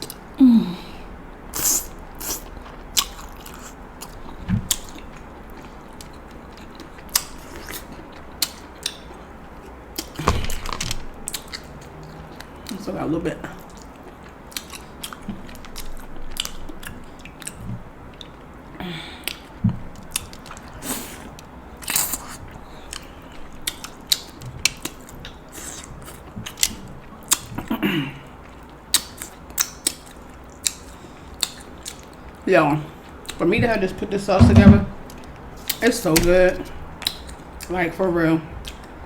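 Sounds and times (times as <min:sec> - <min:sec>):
chewing with wet mouth clicks: 0:01.5 - 0:12.8, 0:13.4 - 0:33.4, 0:35.0 - 0:37.7, 0:38.6 - 0:39.0.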